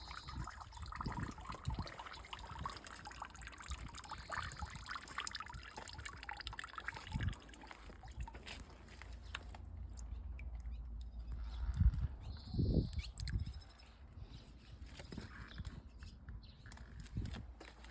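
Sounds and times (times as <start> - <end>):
water trickling and splashing: 0.0 - 15.9, 16.7 - 17.9.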